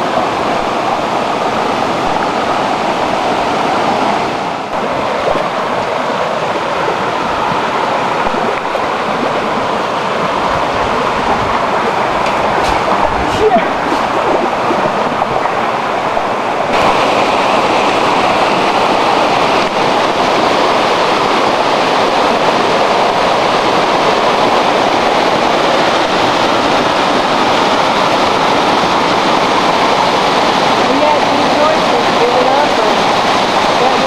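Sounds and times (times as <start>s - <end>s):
river rapids rushing over rocks: 0.0s - 34.0s.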